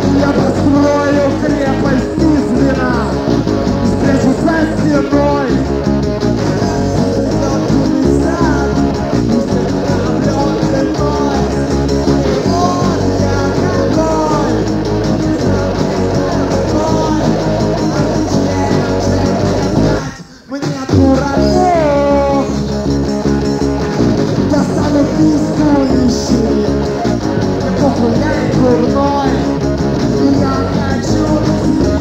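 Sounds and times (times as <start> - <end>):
bass guitar: 0.0 - 32.0
drums: 0.0 - 32.0
electric guitar lead lines: 0.0 - 32.0.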